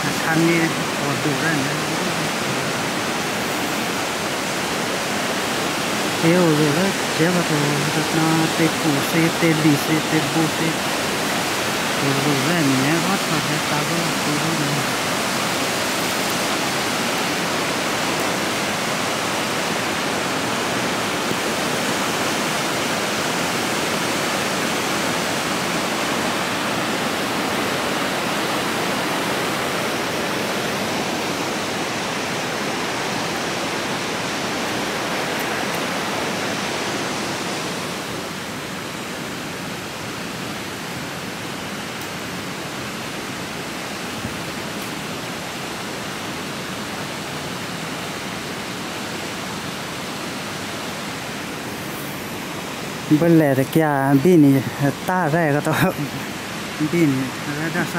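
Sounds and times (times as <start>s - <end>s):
water rushing into spillway: 0.0s - 57.9s.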